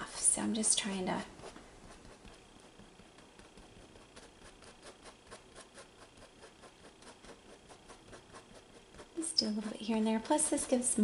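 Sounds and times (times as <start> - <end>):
paintbrush dabbing on canvas: 0.0 - 9.8.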